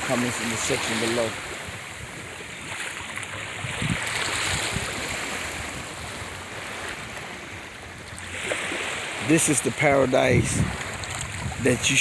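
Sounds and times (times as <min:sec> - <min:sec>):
ocean surf washing on beach: 0:00.0 - 0:12.0.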